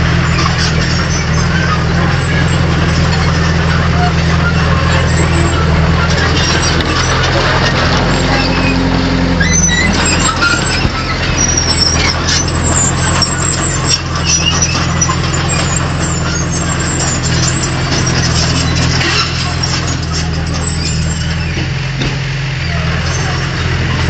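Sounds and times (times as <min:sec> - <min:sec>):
bulldozer diesel engine running: 0:00.0 - 0:24.0
short squeaks: 0:00.1 - 0:22.0.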